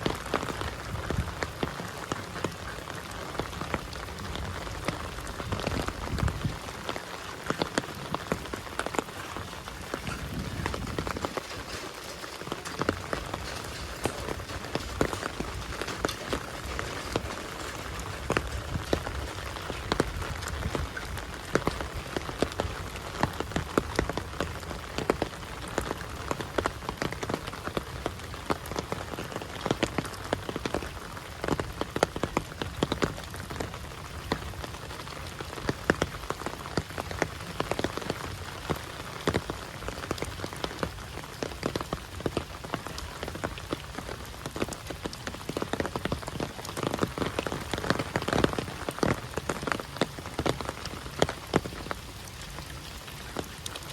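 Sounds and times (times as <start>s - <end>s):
close raindrop impacts: 0.0s - 53.9s
heavy rain hissing: 0.0s - 53.9s.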